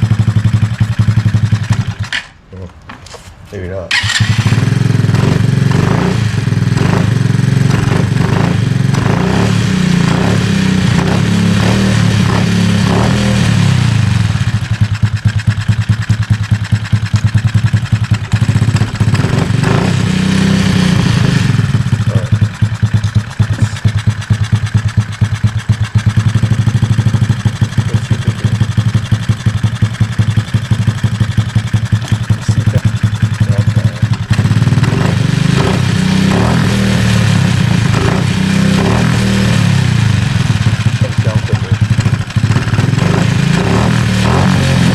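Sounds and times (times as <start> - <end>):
small motorcycle engine running: 0.0 - 2.1, 3.9 - 44.9.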